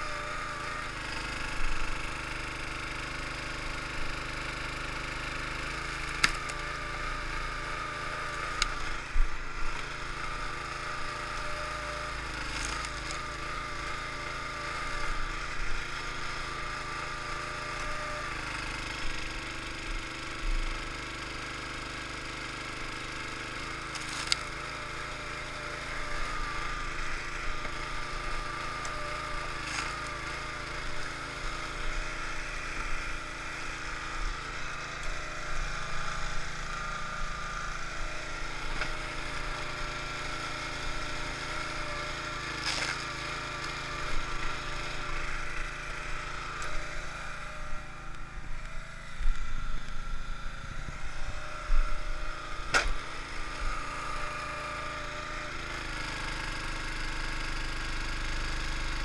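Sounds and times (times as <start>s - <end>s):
small gasoline engine running: 0.0s - 59.0s
wood cracking and splitting: 4.1s - 21.2s, 21.8s - 50.0s, 51.0s - 56.1s.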